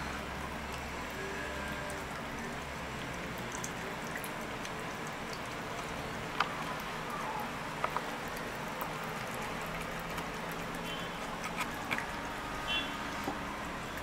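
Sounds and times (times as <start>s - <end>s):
sharp drip-like ticks: 0.0s - 14.0s
tap water trickling into basin: 0.1s - 14.0s.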